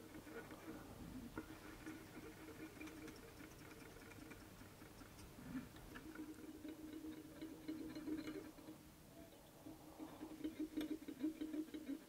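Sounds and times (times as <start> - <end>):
thread ticking and rustling: 0.0 - 12.0.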